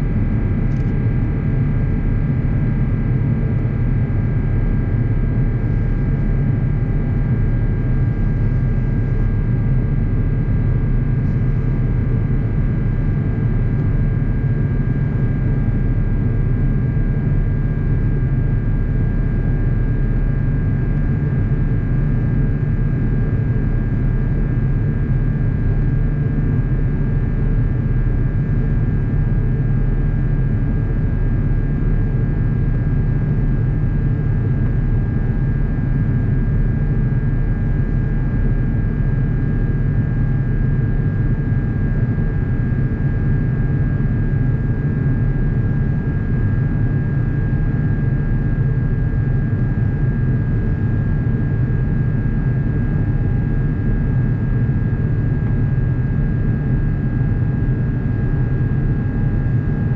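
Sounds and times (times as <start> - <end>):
faint steady whine: 0.0 - 59.9
low rumble of jet engines: 0.0 - 59.9.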